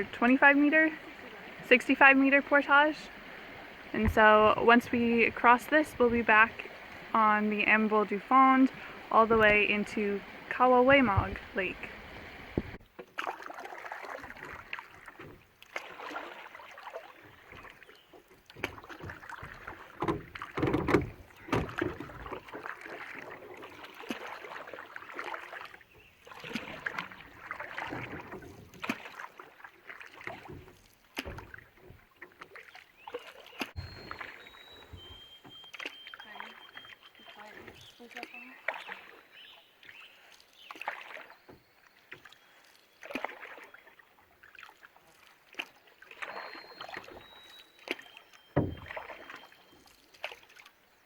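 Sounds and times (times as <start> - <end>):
paddle strokes splashing water: 0.0 - 51.0.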